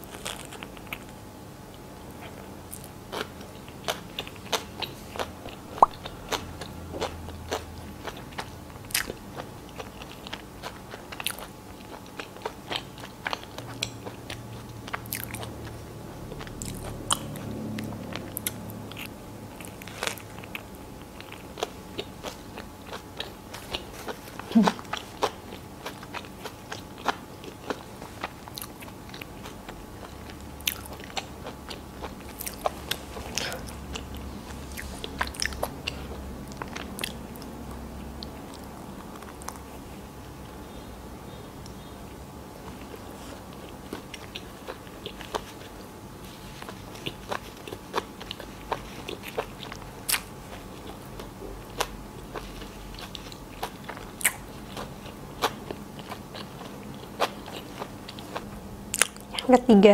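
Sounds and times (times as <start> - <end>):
chewing a sandwich: 0.0 - 59.5.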